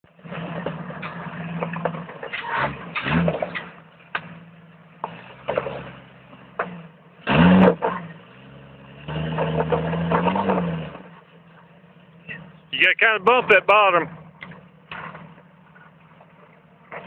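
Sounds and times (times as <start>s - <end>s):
engine working under load: 0.0s - 17.0s.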